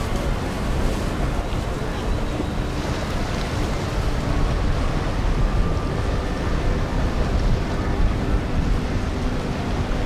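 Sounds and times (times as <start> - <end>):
motorboat engine: 0.0 - 10.0
rushing water: 0.0 - 10.0
wind buffeting the microphone: 0.0 - 10.0.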